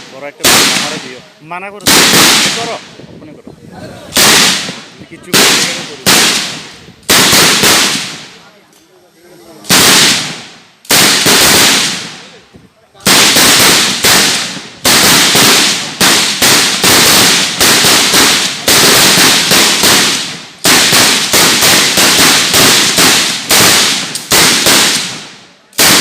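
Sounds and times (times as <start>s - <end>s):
rifle shots echoing: 0.0s - 1.2s, 1.8s - 2.9s, 4.2s - 8.4s, 9.7s - 12.4s, 13.0s - 26.0s.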